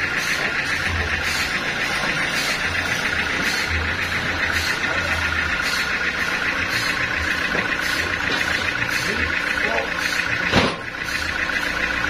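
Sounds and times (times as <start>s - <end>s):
band saw whining: 0.0s - 12.0s
low engine rumble: 0.0s - 12.0s.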